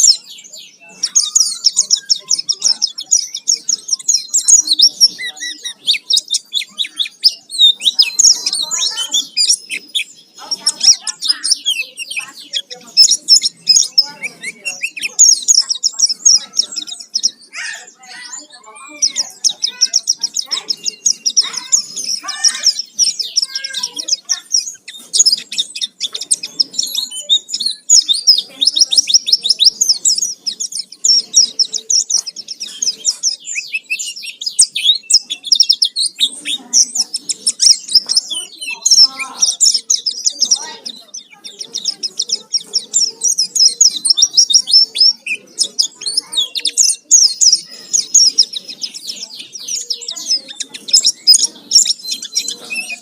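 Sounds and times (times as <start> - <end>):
bird twittering song: 0.0 - 53.0.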